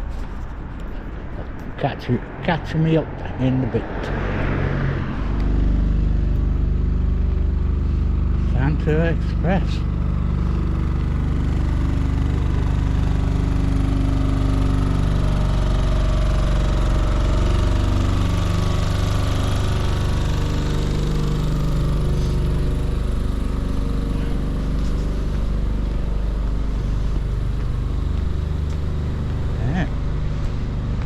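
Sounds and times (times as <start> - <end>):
ride engine running near idle: 5.2 - 31.0.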